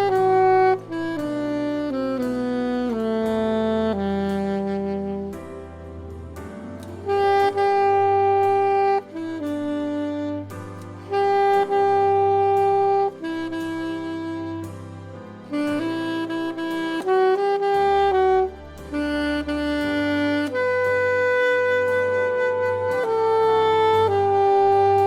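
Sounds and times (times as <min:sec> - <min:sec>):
saxophone melody: 0:00.0 - 0:25.0
soft low backing accompaniment: 0:00.0 - 0:25.0.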